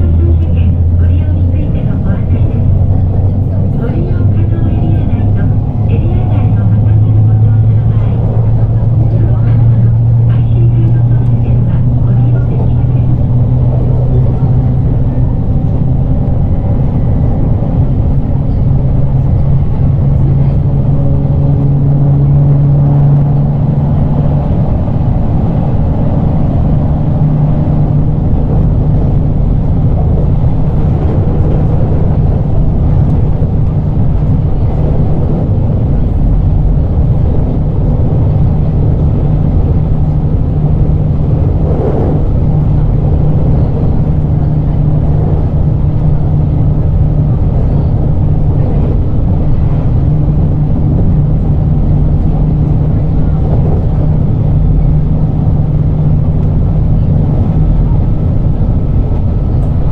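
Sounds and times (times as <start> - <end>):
train motor hum: 0.0 - 59.9
wheels rumbling on rail: 0.0 - 59.9.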